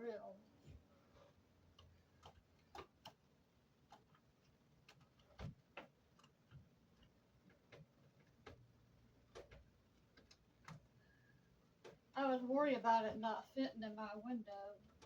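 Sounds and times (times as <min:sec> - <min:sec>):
faint clicks and taps: 0:00.6 - 0:12.2, 0:14.3 - 0:15.0.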